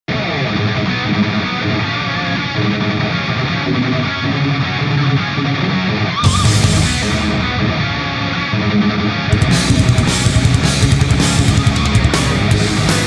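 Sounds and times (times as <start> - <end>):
rock music with strummed guitar: 0.1 - 13.0.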